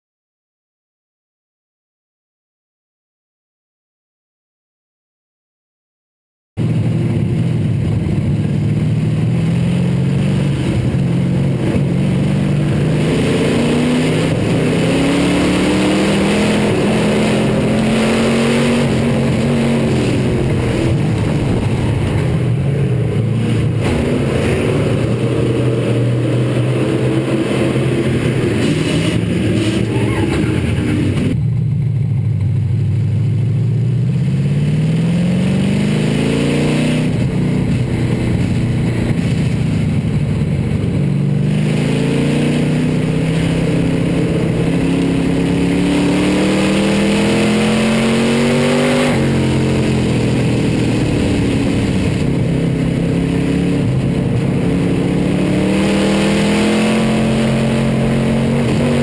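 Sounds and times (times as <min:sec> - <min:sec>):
race car engine revving: 0:06.6 - 0:31.4, 0:33.6 - 0:59.0.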